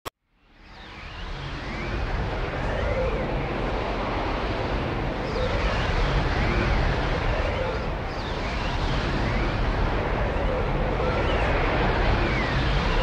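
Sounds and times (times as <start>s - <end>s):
rushing vortex noise with deep rumble: 1.4s - 13.0s.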